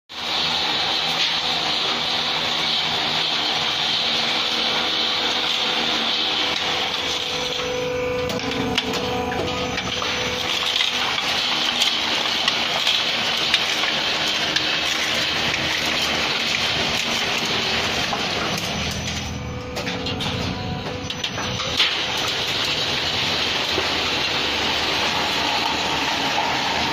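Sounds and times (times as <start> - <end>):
roll-forming machine running: 0.1 - 26.9.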